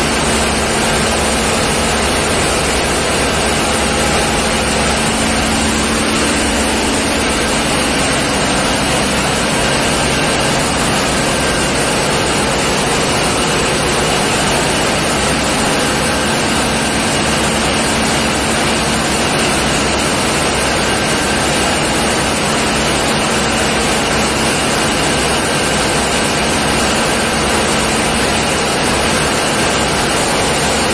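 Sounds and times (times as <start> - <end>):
diesel engine room drone: 0.0 - 30.9.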